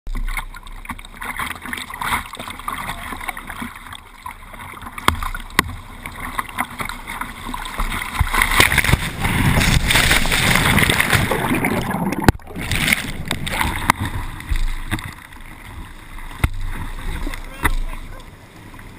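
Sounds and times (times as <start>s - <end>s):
water slaps: 0.1s - 18.3s
water splashing around kayak: 0.1s - 18.9s
white water rushing: 2.2s - 18.9s.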